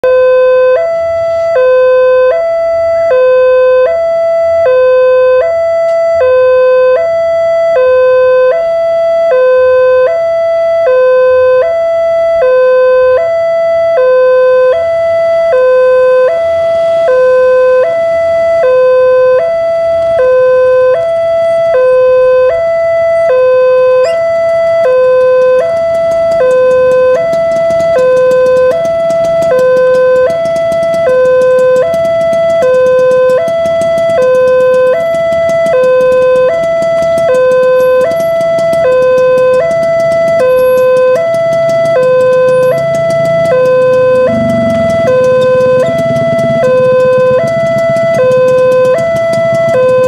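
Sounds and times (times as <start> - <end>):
two-tone level crossing alarm: 0.0 - 50.0.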